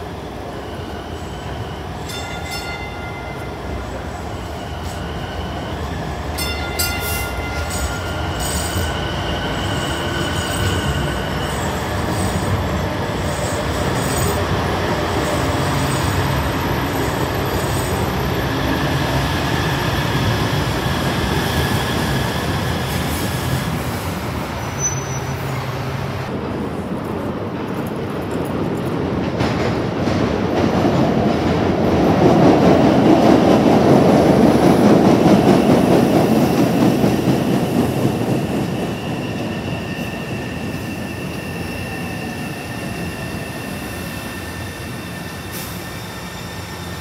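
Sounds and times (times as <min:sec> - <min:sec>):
train wheels squealing: 0:00.0 - 0:26.1, 0:32.4 - 0:47.0
train rolling rumble: 0:00.0 - 0:47.0.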